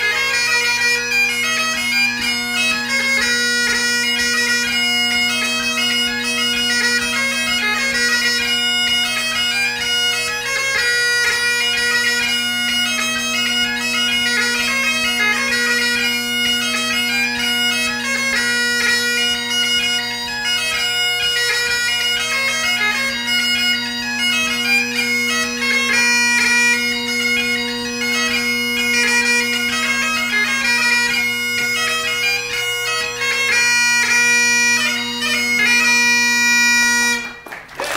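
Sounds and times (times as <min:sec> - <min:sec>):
bagpipe chanter melody: 0:00.0 - 0:37.7
bagpipe drones: 0:00.0 - 0:37.9.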